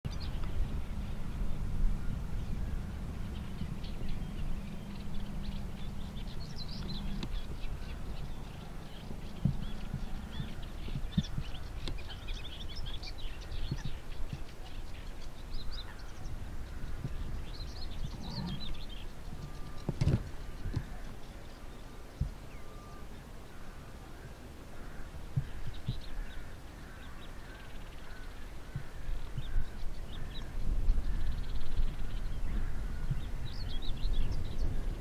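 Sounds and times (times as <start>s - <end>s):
low steady rumble: 0.1s - 35.0s
small birds singing: 0.1s - 35.0s.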